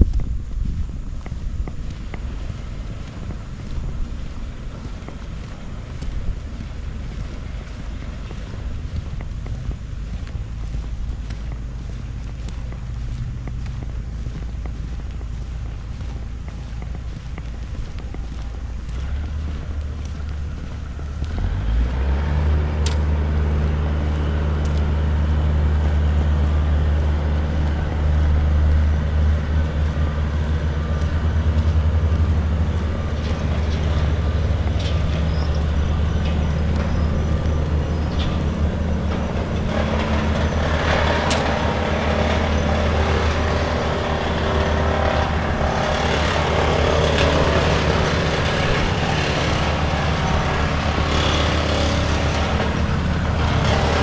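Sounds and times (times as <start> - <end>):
broad rushing noise: 0.0 - 54.0
heavy vehicle engine droning: 0.0 - 54.0.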